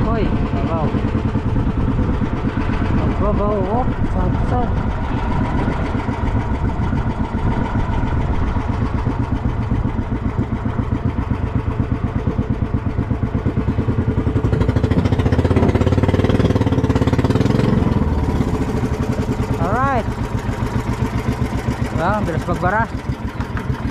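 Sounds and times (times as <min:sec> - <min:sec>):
boat engine chugging: 0:00.0 - 0:23.9.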